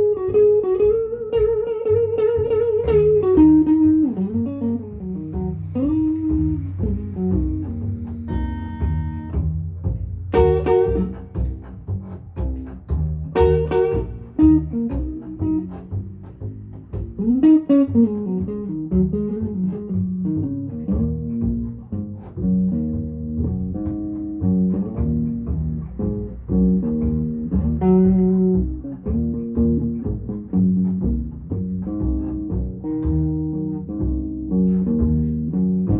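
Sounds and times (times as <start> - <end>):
low bass line: 0.0 - 35.9
plucked guitar notes: 0.0 - 35.9.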